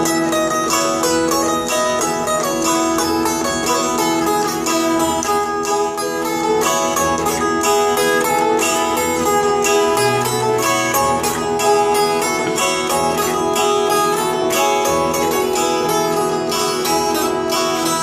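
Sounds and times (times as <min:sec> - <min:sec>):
plucked zither melody: 0:00.0 - 0:18.0
pulsing bass line: 0:00.0 - 0:18.0.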